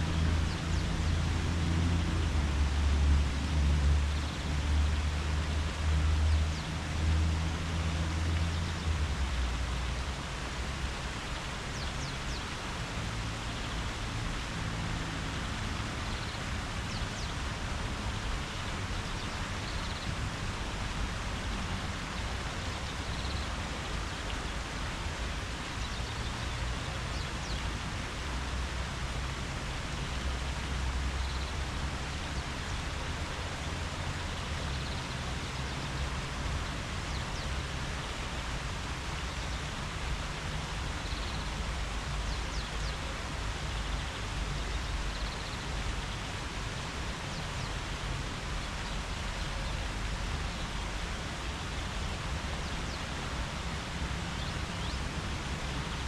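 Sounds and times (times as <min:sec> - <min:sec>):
leaves rustling in breeze: 0:00.0 - 0:56.0.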